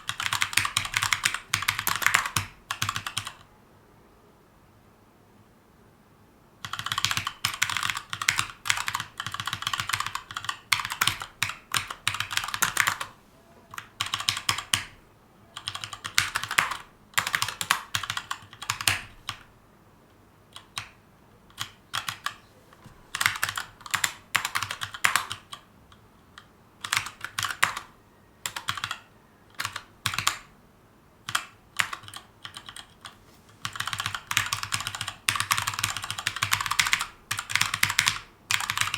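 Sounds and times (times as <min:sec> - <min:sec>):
mechanical keyboard typing: 0:00.0 - 0:03.5, 0:06.6 - 0:15.0, 0:15.6 - 0:19.5, 0:20.5 - 0:22.4, 0:23.1 - 0:30.5, 0:31.2 - 0:38.9.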